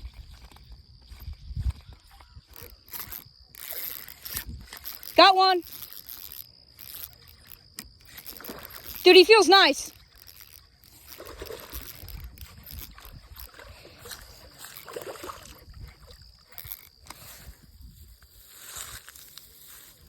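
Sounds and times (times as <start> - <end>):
fishing rod handling noise: 0.0 - 20.0
faint water sloshing: 2.5 - 20.0.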